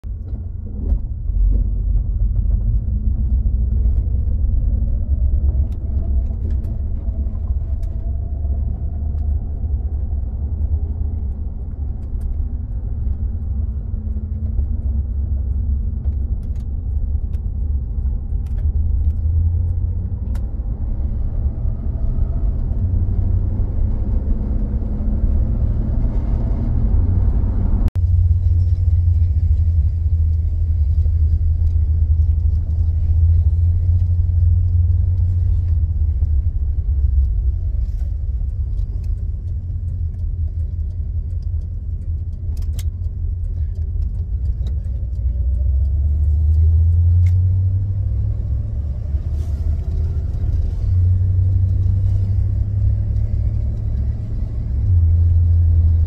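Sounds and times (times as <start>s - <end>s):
road rumble: 0.0s - 56.0s
van engine running: 0.0s - 56.0s.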